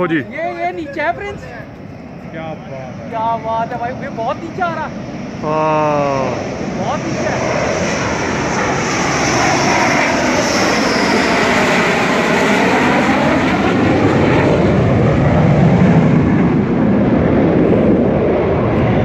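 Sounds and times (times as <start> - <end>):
jet engines roaring overhead: 0.0 - 19.0.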